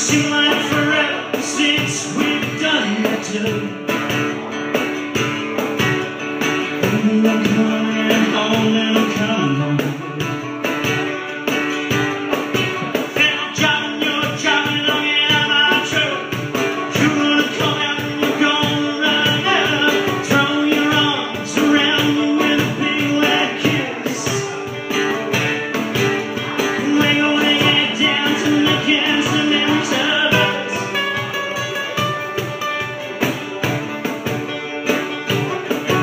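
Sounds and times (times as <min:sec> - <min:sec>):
cajon beat: 0:00.0 - 0:36.0
picked banjo: 0:00.0 - 0:36.0
strummed acoustic guitar: 0:00.0 - 0:36.0.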